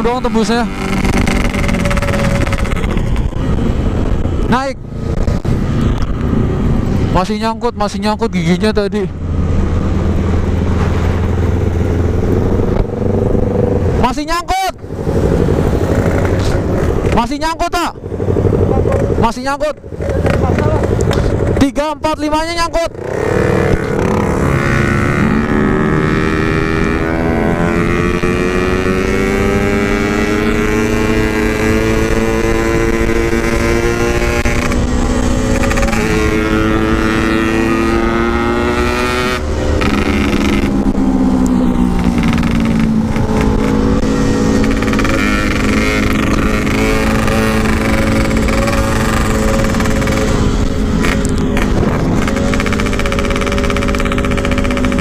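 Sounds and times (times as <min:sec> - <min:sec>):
wind rush: 0:00.0 - 0:14.1, 0:23.0 - 0:55.0
motorcycle engine revving high: 0:00.0 - 0:55.0.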